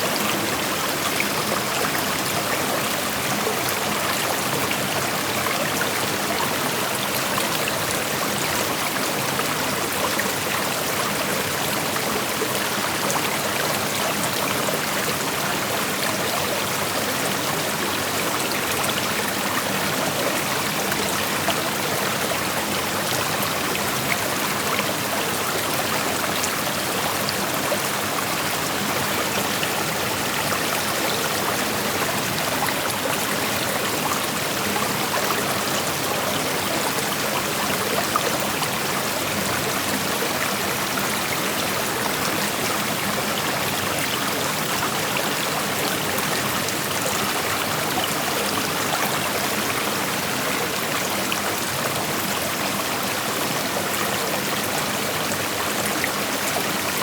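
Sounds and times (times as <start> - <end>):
creek flowing over rocks: 0.0 - 57.0.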